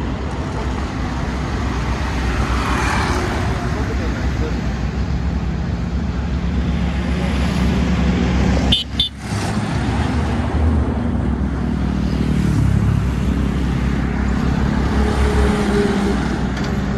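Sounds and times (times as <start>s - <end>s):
road traffic passing: 0.0s - 16.9s
truck diesel engines rumbling: 0.0s - 16.9s.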